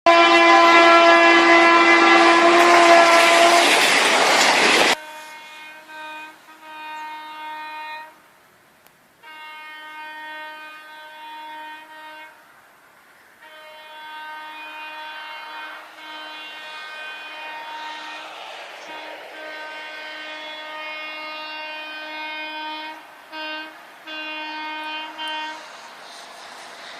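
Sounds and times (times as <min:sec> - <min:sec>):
horn blasts: 0:00.1 - 0:03.9, 0:04.9 - 0:08.4, 0:09.2 - 0:12.6, 0:13.4 - 0:26.2.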